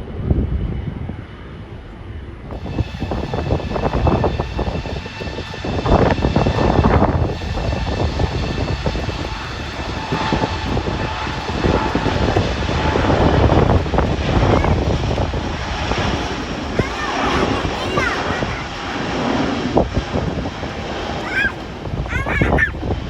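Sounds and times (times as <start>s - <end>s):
jet engine high whine: 0.0s - 23.0s
jet engines crackling rumble: 0.0s - 23.0s.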